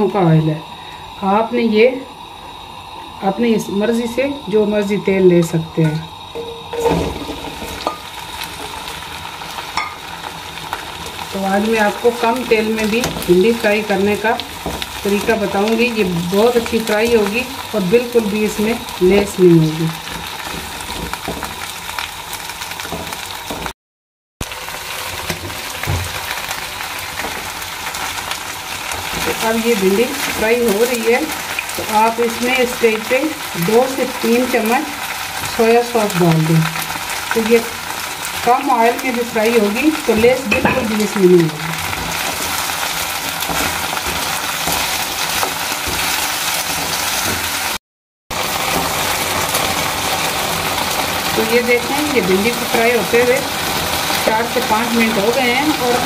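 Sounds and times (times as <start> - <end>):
okra sizzling in oil: 0.0 - 23.8, 24.4 - 56.0.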